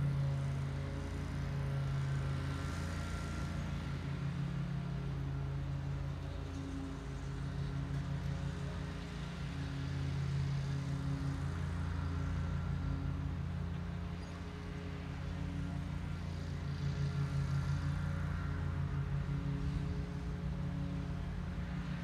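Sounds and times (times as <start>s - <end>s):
motor humming with slow throb: 0.0s - 22.0s.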